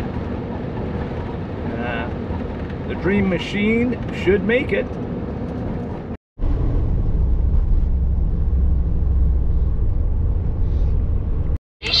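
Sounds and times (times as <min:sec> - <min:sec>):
engine and road noise drone: 0:00.0 - 0:12.0.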